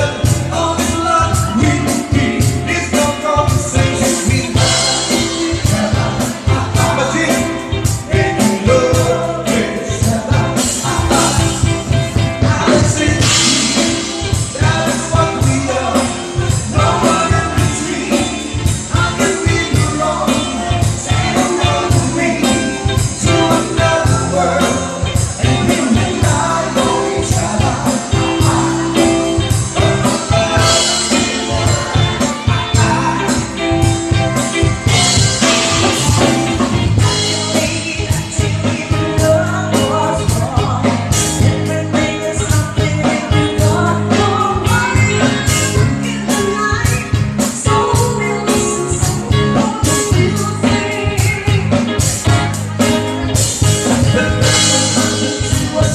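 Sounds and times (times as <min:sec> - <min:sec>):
drum kit beat: 0:00.0 - 0:55.9
live band playing pop-rock: 0:00.0 - 0:55.9
person singing: 0:00.0 - 0:55.9.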